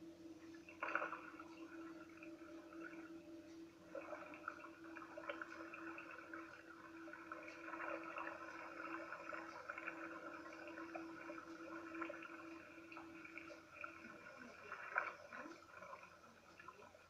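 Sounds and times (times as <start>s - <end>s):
kayak motor humming: 0.0s - 17.0s
water splashing against hull: 0.6s - 3.2s, 3.8s - 17.0s.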